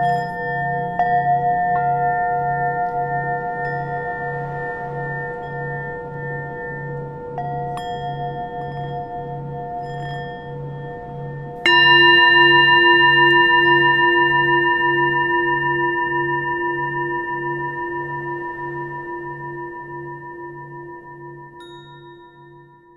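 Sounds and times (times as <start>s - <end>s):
singing bowl ringing: 0.0s - 22.9s.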